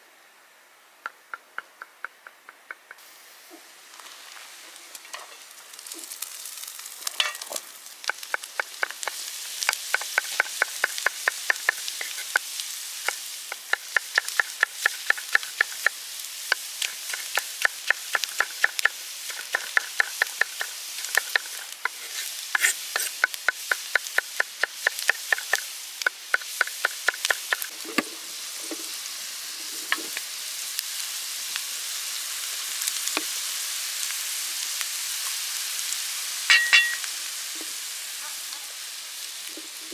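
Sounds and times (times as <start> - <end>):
vegetables sizzling in oil: 3.0 - 39.9.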